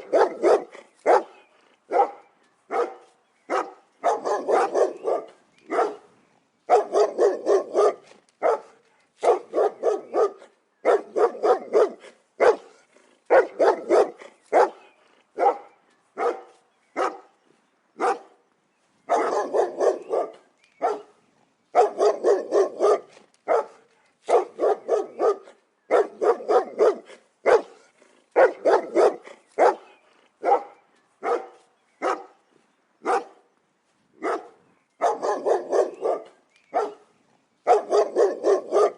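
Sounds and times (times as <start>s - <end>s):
dog barking: 0.0s - 6.1s, 6.7s - 17.3s, 18.0s - 18.4s, 19.1s - 21.1s, 21.8s - 27.8s, 28.4s - 32.4s, 33.0s - 33.4s, 34.2s - 37.0s, 37.7s - 38.9s.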